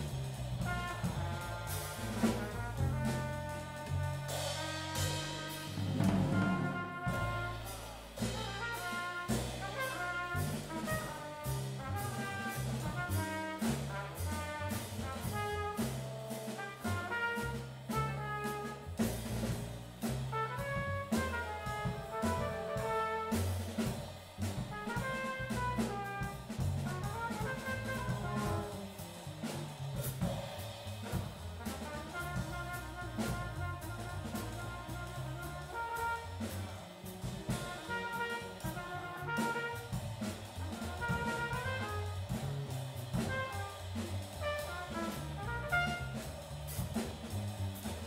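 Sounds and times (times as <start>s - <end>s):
drum kit with cymbal strokes: 0.0s - 48.0s
upright bass: 0.0s - 48.0s
trumpet melody: 0.6s - 19.0s, 20.3s - 23.8s, 24.6s - 29.0s, 31.6s - 42.3s, 43.2s - 46.2s.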